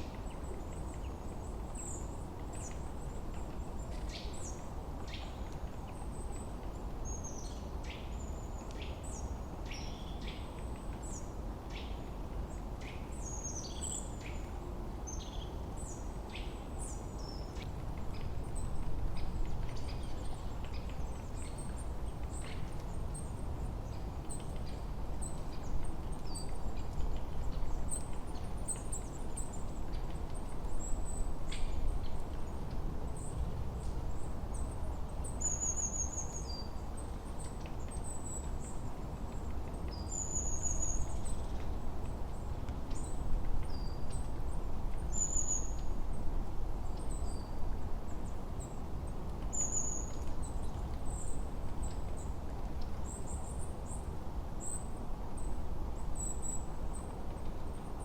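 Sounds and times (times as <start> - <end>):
songbirds chirping: 0.0 - 58.0
wind through forest: 0.0 - 58.0.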